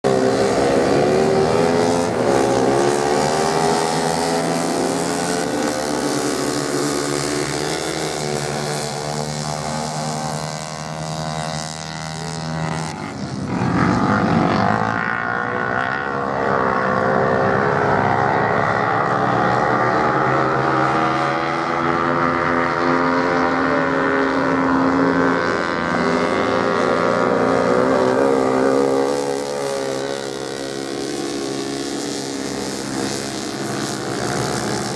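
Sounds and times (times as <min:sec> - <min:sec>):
motorcycle engines revving: 0:00.0 - 0:34.9.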